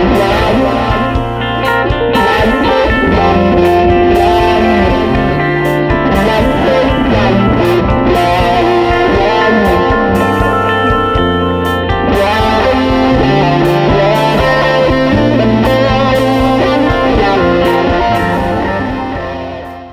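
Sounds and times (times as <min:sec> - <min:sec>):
bass line: 0:00.0 - 0:19.9
electric guitar music: 0:00.0 - 0:19.9.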